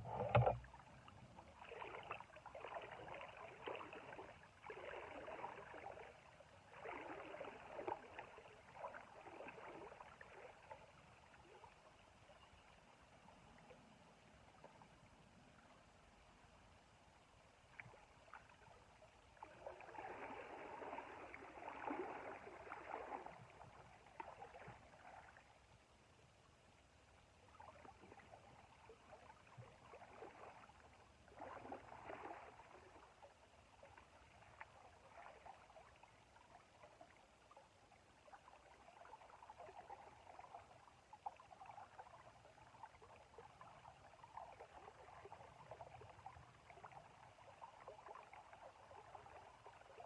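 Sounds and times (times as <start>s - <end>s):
river water splashing and gurgling: 0.0s - 16.8s, 17.4s - 26.0s, 27.4s - 50.0s.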